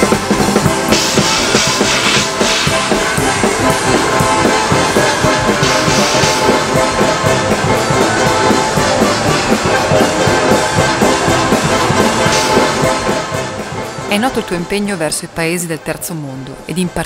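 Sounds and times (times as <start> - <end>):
live rock band playing: 0.0 - 14.1
drum kit: 0.0 - 15.1.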